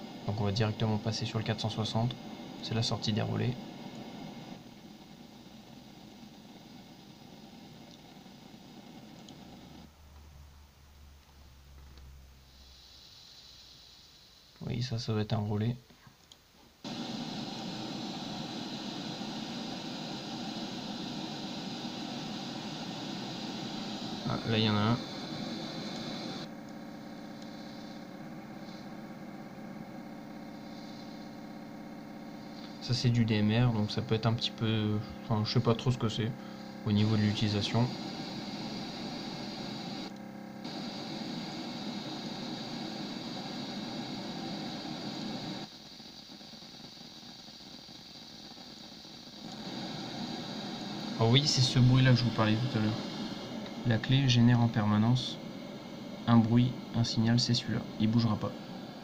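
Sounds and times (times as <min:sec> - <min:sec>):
radio static hiss: 0:00.0 - 0:09.9, 0:12.4 - 0:15.8, 0:16.8 - 0:59.0.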